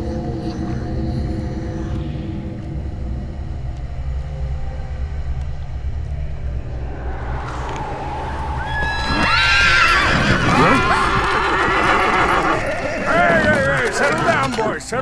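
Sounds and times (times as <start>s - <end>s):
low steady rumble: 0.0s - 12.9s.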